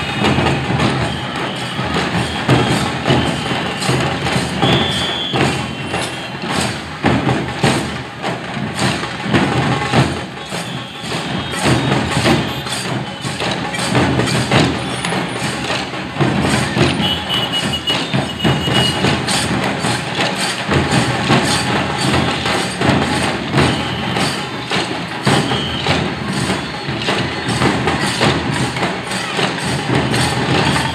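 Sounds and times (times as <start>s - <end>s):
rhythmic drumming: 0.0s - 30.9s
sharp clacking strikes: 0.2s - 30.9s.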